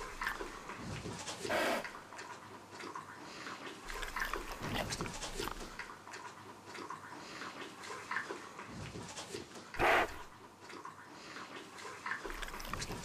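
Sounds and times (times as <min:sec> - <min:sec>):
soft pony noises: 0:00.0 - 0:13.0.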